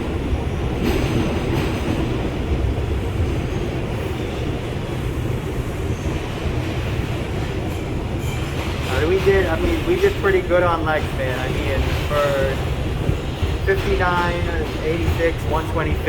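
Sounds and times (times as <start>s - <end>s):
subway car rumble: 0.0s - 16.0s.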